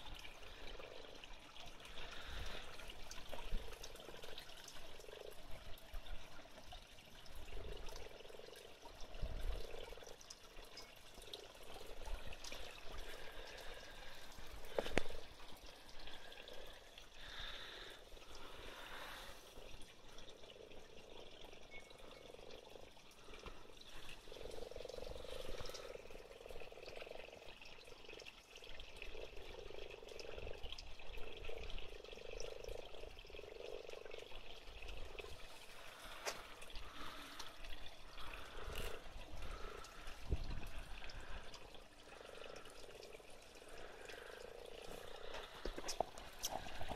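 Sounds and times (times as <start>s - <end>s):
frogs croaking: 0.0s - 46.9s
water trickling: 0.0s - 46.9s.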